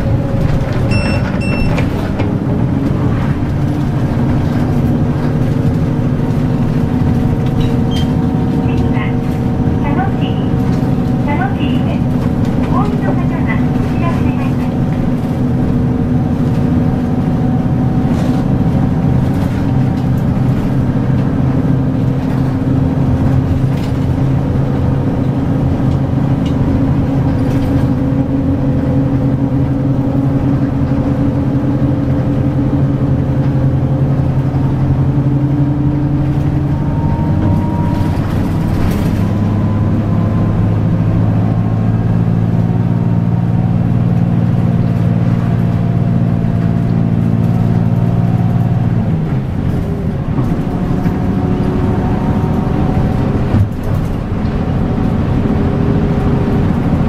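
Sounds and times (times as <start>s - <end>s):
bus diesel engine cruising: 0.0s - 57.0s.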